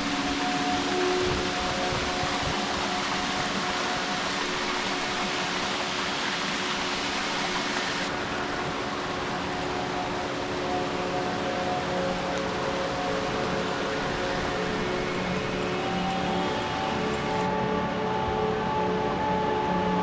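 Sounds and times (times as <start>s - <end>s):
waterfall rushing: 0.0s - 17.6s.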